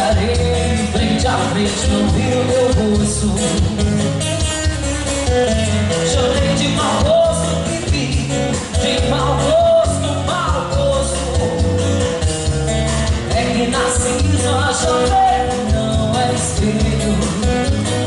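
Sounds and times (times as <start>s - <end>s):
bass and drums beat: 0.0s - 18.0s.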